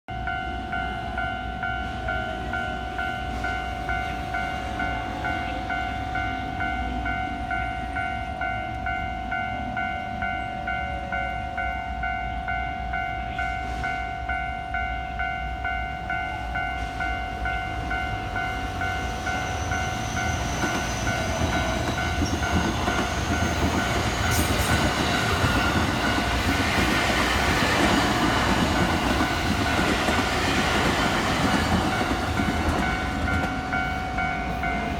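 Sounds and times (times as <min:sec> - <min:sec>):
level crossing warning bell: 0:00.1 - 0:34.9
train rumble and wheel clatter: 0:00.1 - 0:34.9.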